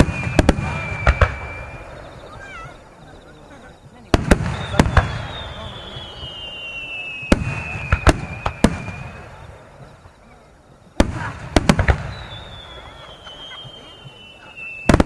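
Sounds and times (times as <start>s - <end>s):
descending firework whistle: 0.0s - 3.3s, 4.2s - 9.8s, 11.0s - 15.0s
fireworks bursting: 0.0s - 15.0s.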